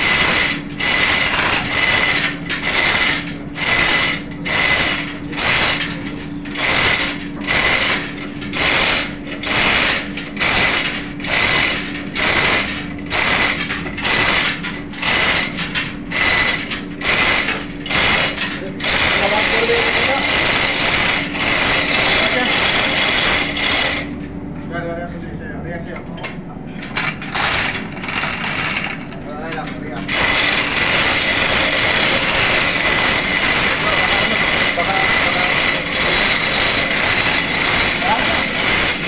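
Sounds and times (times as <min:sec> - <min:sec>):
chain hoist ratchet clattering: 0:00.0 - 0:24.1, 0:26.9 - 0:39.0.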